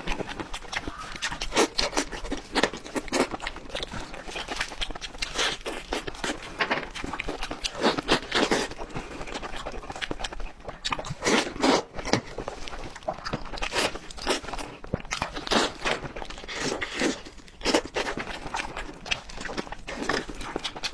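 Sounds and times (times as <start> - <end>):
crunchy chewing: 0.0 - 20.9.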